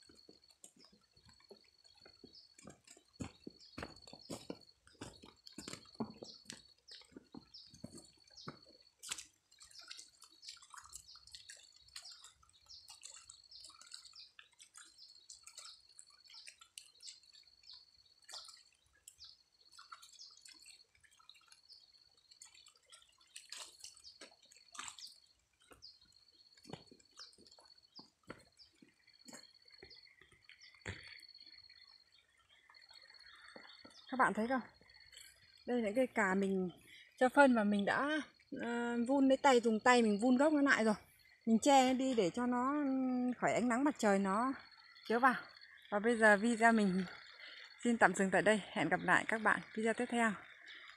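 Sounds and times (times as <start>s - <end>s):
light rain dripping: 0.0s - 50.9s.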